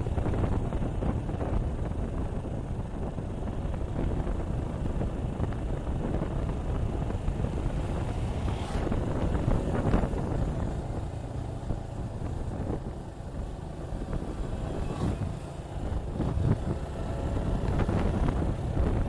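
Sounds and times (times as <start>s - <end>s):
motorcycle engine running: 0.0s - 19.0s
wind rumbling on microphone: 0.0s - 19.0s.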